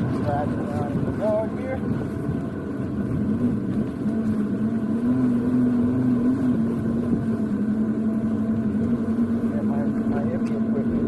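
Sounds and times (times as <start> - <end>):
motor drone: 0.0 - 11.0.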